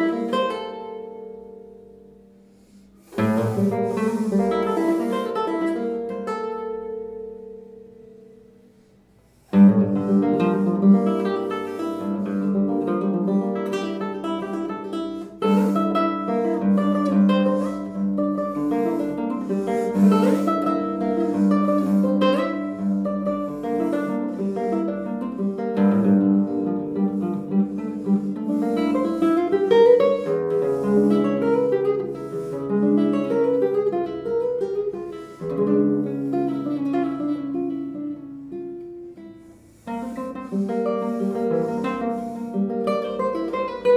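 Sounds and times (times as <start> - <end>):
classical guitar fingerpicking: 0.0 - 43.9.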